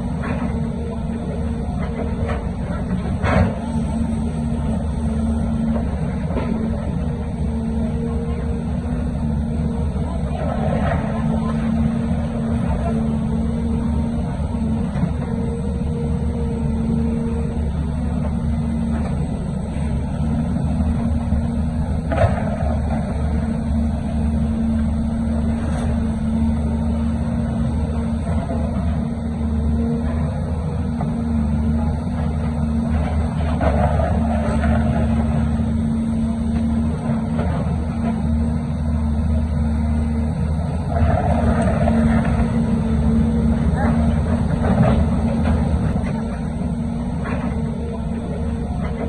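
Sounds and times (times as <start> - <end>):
heavy diesel engine rumbling: 0.0 - 49.0.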